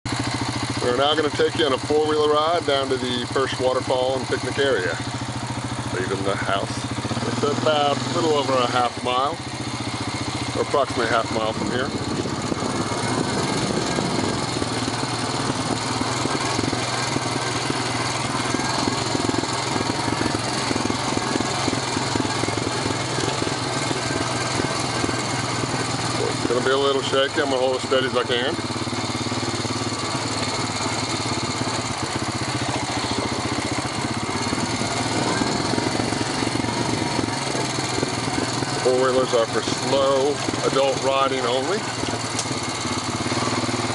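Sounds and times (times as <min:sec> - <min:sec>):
atv engine running: 0:00.1 - 0:43.9
rattle over rough trail: 0:00.1 - 0:43.9.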